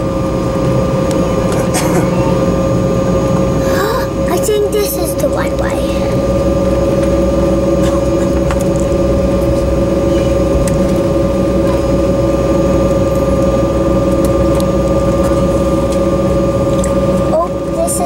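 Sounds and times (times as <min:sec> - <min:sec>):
jet engines whining in cabin: 0:00.0 - 0:18.0.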